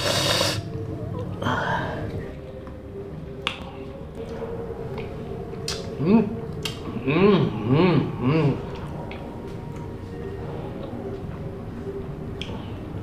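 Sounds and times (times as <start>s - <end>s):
low steady hum: 0.0s - 13.0s
people eating by hand: 0.0s - 13.0s.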